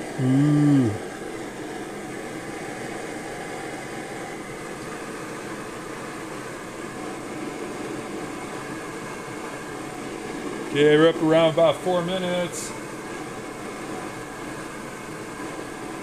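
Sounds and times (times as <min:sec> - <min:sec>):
stove burner hissing: 0:00.0 - 0:16.0.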